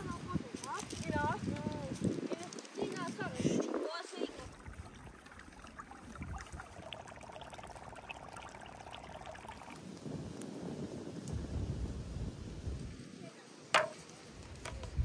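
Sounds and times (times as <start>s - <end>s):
stream trickling over stones: 0.3s - 13.0s.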